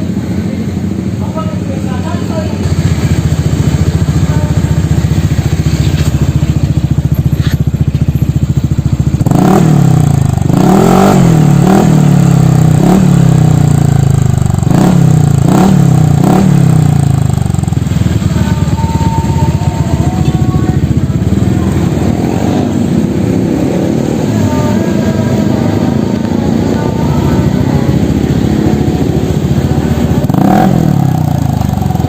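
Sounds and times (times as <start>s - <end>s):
scooter engine idling and revving: 0.0s - 32.0s.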